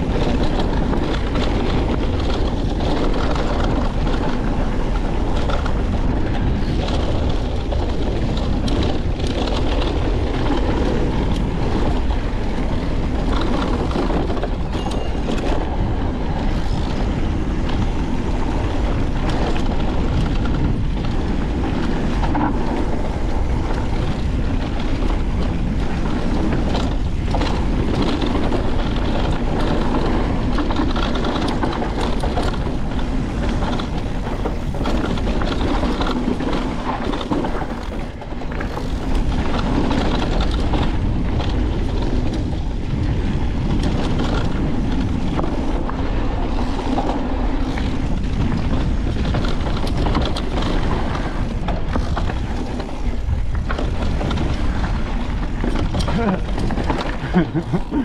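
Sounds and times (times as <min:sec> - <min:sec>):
bike knocking and rattling: 0:00.0 - 0:58.0
tyres rumbling over rocky trail: 0:00.0 - 0:58.0
wind buffeting microphone: 0:00.0 - 0:58.0.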